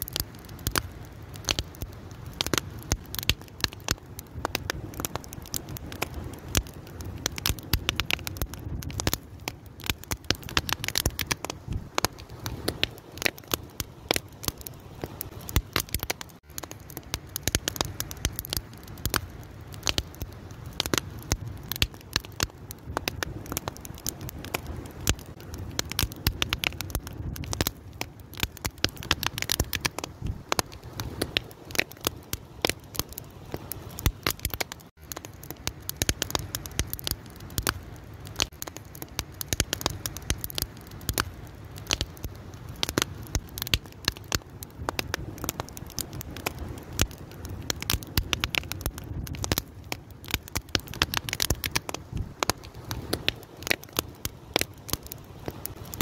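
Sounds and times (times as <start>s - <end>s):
fire crackling and popping: 0.0s - 56.0s
low fire rumble: 0.0s - 56.0s.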